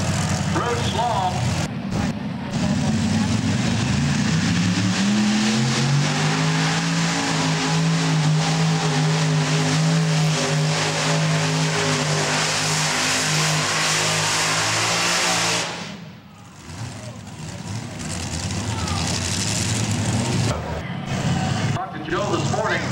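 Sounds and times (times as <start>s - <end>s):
tractor engine at full throttle: 0.0s - 22.9s.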